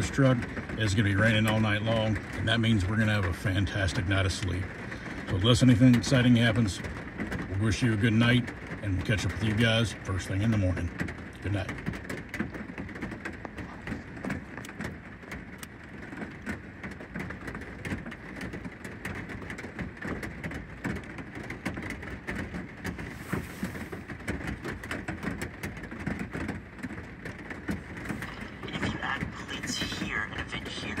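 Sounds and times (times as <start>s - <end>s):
heavy rain on vehicle roof: 0.0s - 31.0s.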